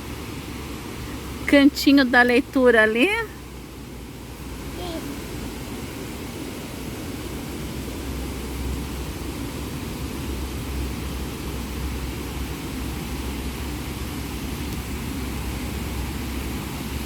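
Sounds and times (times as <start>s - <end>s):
car rumble and hiss in motion: 0.0s - 17.0s.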